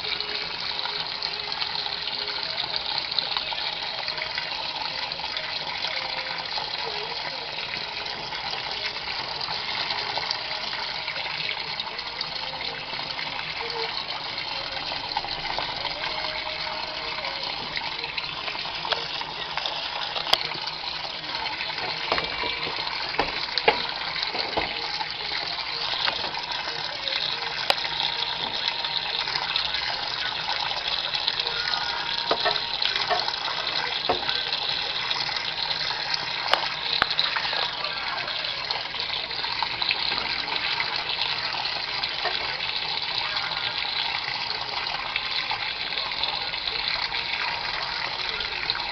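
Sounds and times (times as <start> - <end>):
water gushing into washing machine: 0.0 - 48.9.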